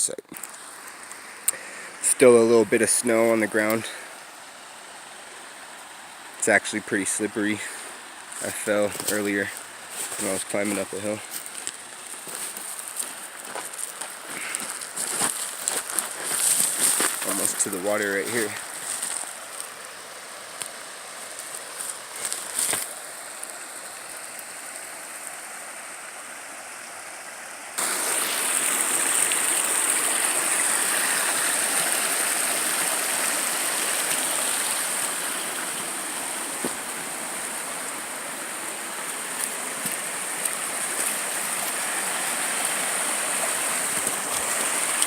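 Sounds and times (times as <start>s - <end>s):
creek water rushing: 0.0s - 45.0s.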